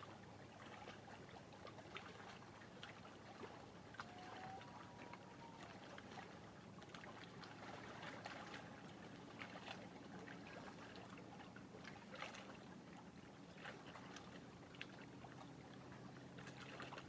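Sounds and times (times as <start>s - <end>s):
low steady hum: 0.0s - 17.0s
small waves lapping: 0.0s - 17.0s.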